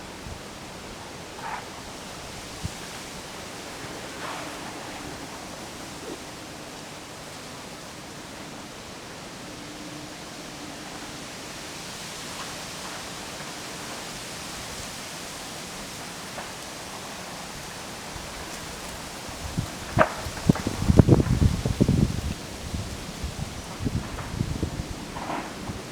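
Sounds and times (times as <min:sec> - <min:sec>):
strong wind through trees: 0:00.0 - 0:25.9.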